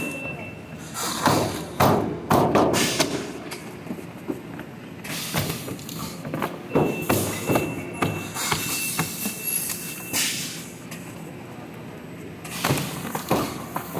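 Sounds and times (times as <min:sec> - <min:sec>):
machine and conveyor clatter: 0:00.0 - 0:11.3, 0:12.4 - 0:13.9
steady mechanical hum: 0:00.0 - 0:13.9.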